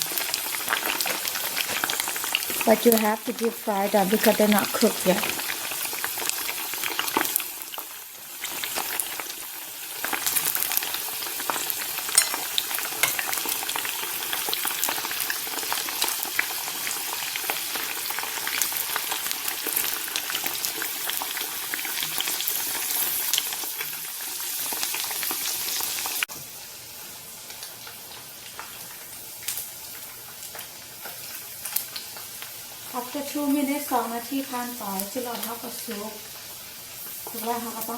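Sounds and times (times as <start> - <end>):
meat sizzling in hot oil: 0.0 - 37.9.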